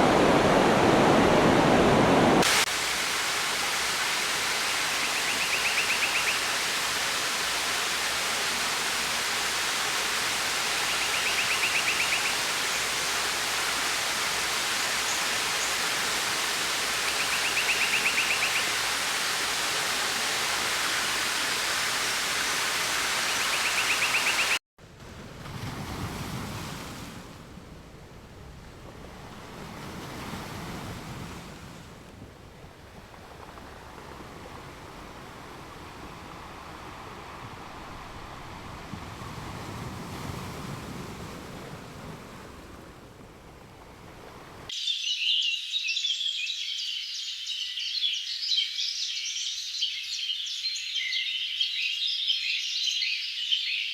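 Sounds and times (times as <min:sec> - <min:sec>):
rushing water: 0:00.0 - 0:27.6, 0:28.9 - 0:44.7
surf washing in: 0:00.0 - 0:44.7.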